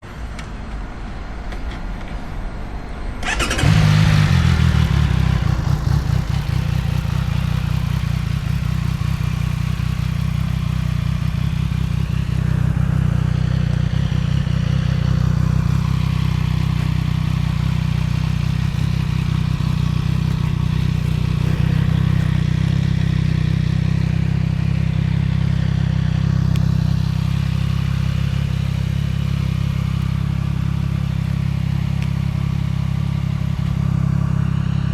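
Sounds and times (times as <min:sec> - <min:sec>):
motorcycle engine running: 0:03.2 - 0:34.9.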